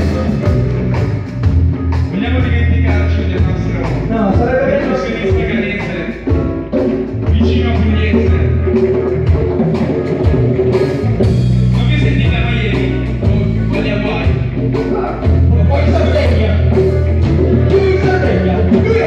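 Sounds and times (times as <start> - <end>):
drum kit with cymbals: 0.0 - 19.0
electric bass notes: 0.0 - 19.0
live blues band: 0.0 - 19.0.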